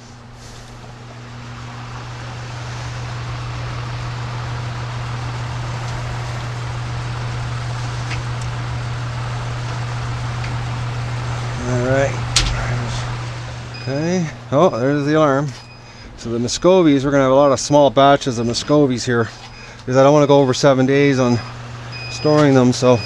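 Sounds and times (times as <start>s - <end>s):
incubator fan humming: 0.0s - 23.0s.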